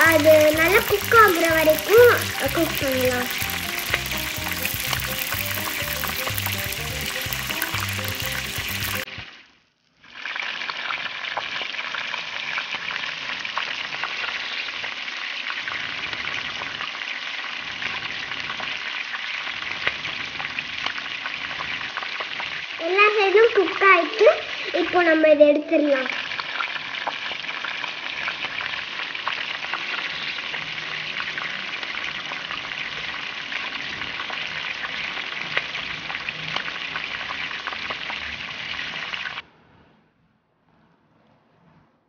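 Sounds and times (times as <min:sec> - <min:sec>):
skewers sizzling in oil: 0:00.0 - 0:39.4.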